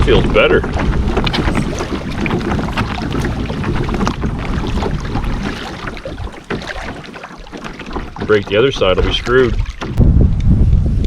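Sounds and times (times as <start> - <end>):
wind rumbling on microphone: 0.0 - 11.0
water sloshing: 0.6 - 10.0.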